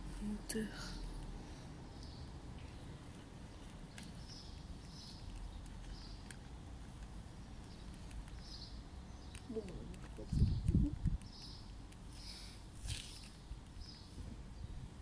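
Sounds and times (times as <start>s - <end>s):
low rumble of wind or traffic: 0.0s - 15.0s.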